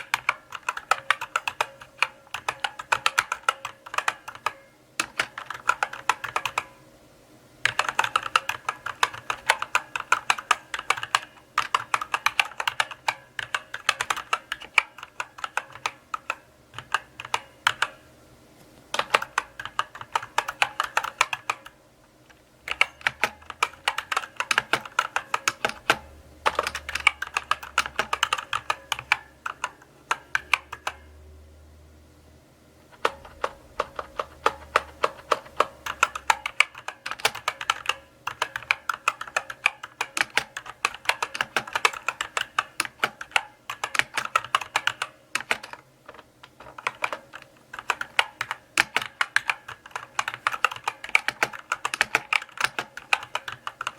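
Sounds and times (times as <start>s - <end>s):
typing on mechanical keyboard: 0.0s - 6.8s, 7.6s - 18.0s, 18.9s - 31.1s, 32.9s - 53.9s.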